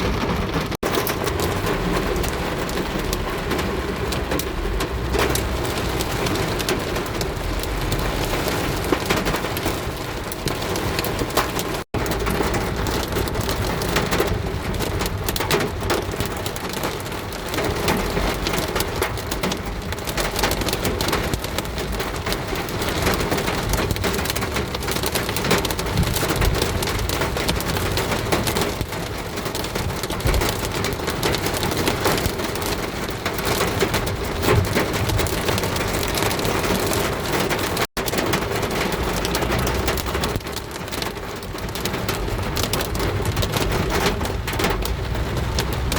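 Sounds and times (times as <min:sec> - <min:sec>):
heavy rain drumming on a car: 0:00.0 - 0:45.9.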